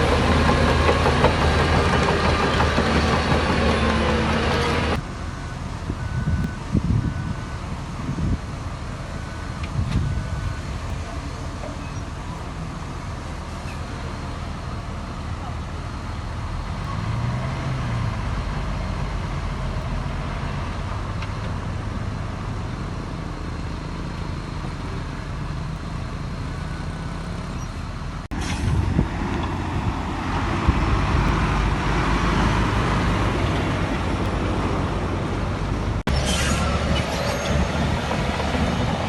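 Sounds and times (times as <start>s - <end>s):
heavy diesel engine rumble: 0.0s - 39.0s.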